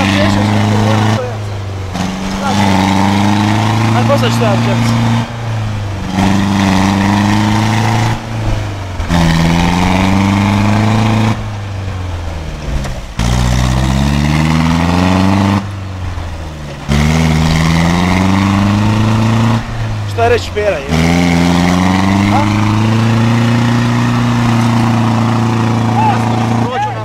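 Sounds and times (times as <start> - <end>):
engine revving hard: 0.0 - 27.0.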